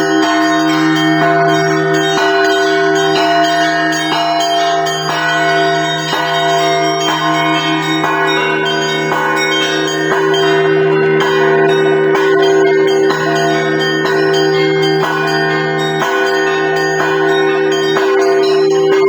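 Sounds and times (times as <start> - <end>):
church bells ringing: 0.0 - 19.0
deep bell sustained tone: 0.0 - 19.0.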